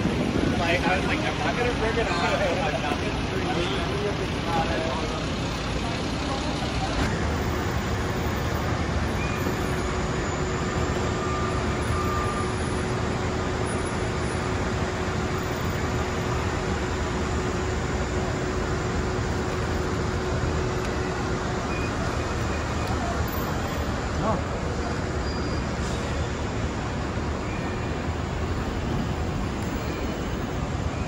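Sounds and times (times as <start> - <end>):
city street traffic: 0.0 - 31.0.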